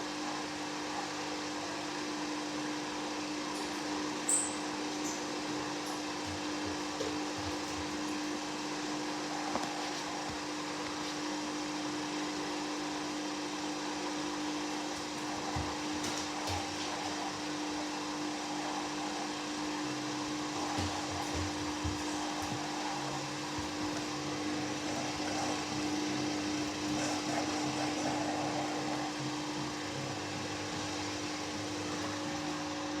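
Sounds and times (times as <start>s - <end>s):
washing machine spin cycle: 0.0s - 33.0s.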